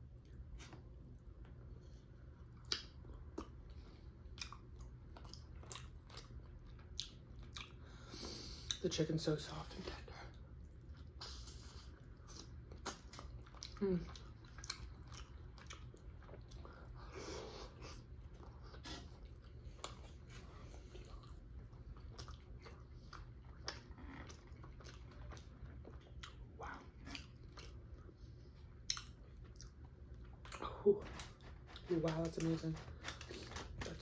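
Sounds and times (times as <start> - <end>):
person chewing food: 0.0 - 8.8, 9.8 - 34.0.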